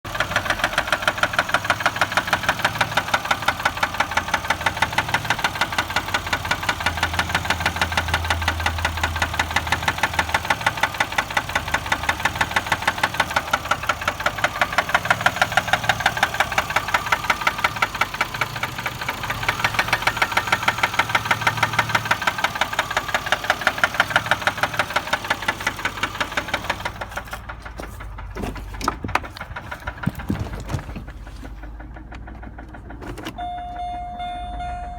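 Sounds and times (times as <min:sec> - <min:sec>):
car engine running: 0:00.1 - 0:34.8
rapid metallic engine knocking: 0:00.1 - 0:34.9.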